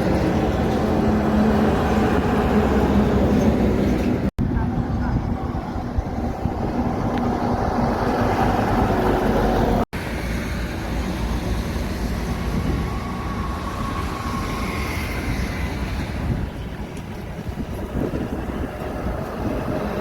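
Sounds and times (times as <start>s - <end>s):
heavy trucks passing: 0.0s - 20.0s.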